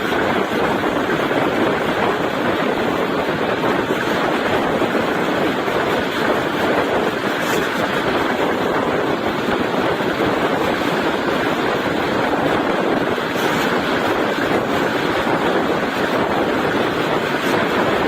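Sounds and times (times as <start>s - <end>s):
train rushing at speed: 0.0s - 18.0s.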